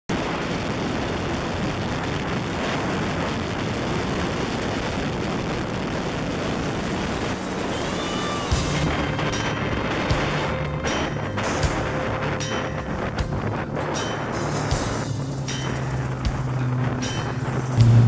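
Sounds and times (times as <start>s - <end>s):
jet ski engine drone: 0.1s - 18.0s
water rushing and spray: 0.1s - 18.0s.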